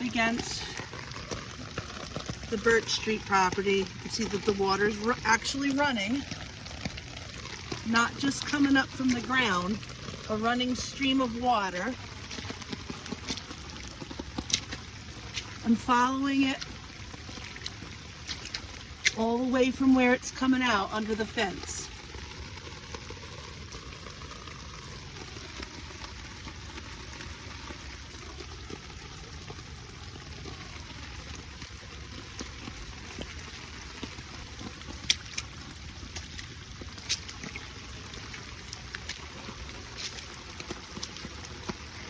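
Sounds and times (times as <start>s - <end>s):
shallow water trickling: 0.0s - 42.0s.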